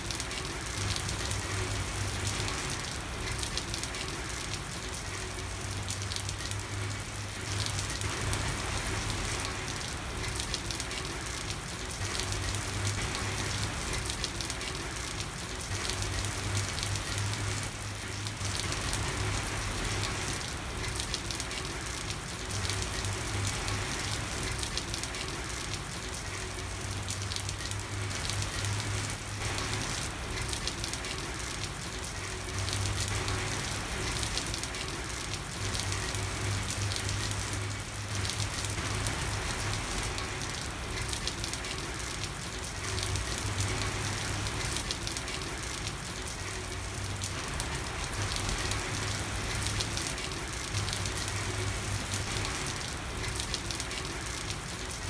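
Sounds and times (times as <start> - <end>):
raindrops pattering on hard surfaces: 0.0 - 55.0.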